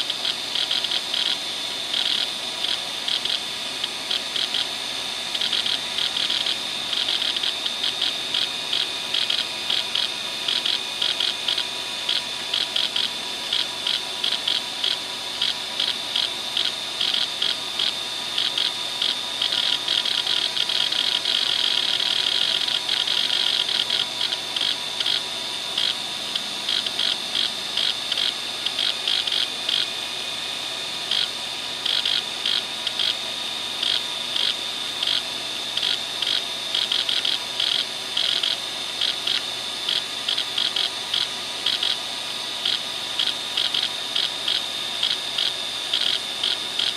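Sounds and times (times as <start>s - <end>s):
hard drive seek clicks: 0.0s - 30.0s, 31.1s - 46.9s
hard drive high whine: 0.0s - 46.9s.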